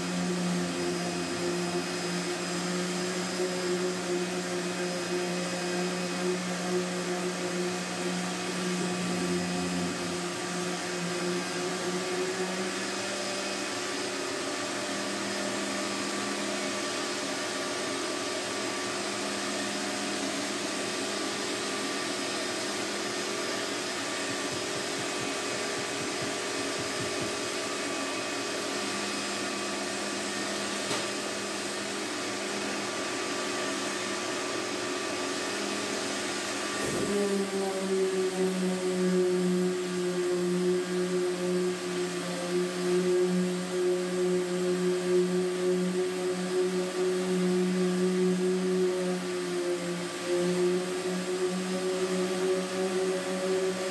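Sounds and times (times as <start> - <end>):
shop vacuum motor whining: 0.0 - 53.9.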